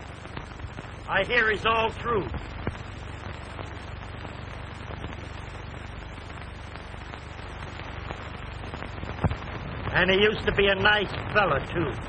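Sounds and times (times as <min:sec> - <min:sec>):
soundtrack hiss and hum: 0:00.0 - 0:12.0.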